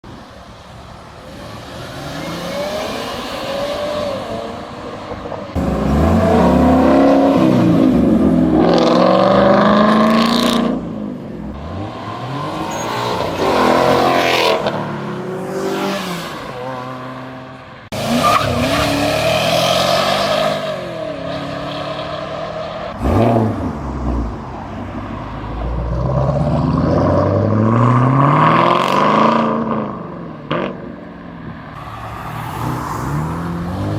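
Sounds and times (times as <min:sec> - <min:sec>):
cars accelerating past: 0:00.5 - 0:33.9.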